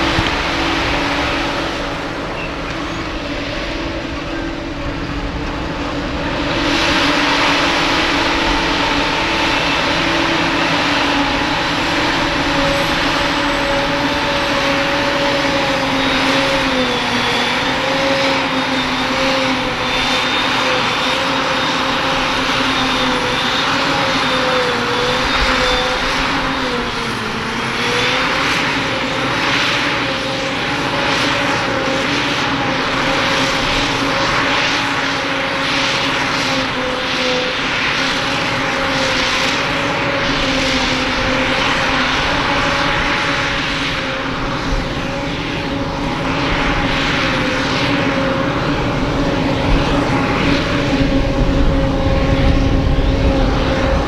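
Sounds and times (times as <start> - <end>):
harvester engine: 0.0 - 54.0
high whine of chopper and blower: 0.0 - 54.0.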